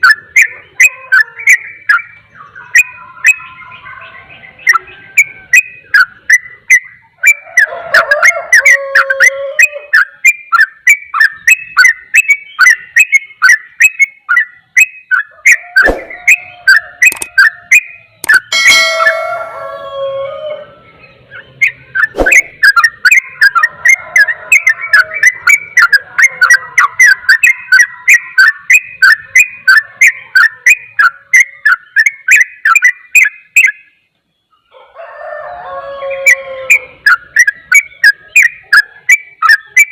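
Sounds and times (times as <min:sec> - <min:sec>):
bird singing chattering notes: 0:00.0 - 0:19.8, 0:20.7 - 0:34.7, 0:36.2 - 0:39.9.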